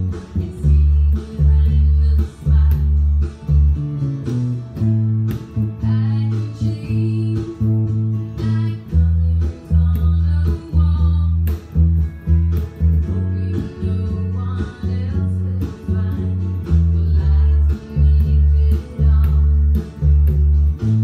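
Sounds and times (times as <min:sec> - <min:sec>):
electric bass plucked notes: 0:00.0 - 0:21.0.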